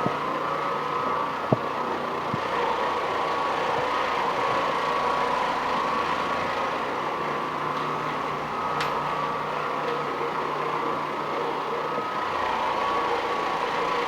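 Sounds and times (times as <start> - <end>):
carpet cleaning machine running: 0.0 - 14.0.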